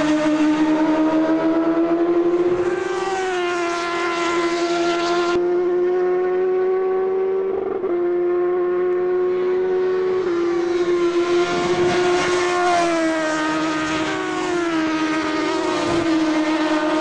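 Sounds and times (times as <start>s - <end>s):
motorcycle engines at high revs: 0.0s - 17.0s
motorcycle passing close: 0.0s - 17.0s.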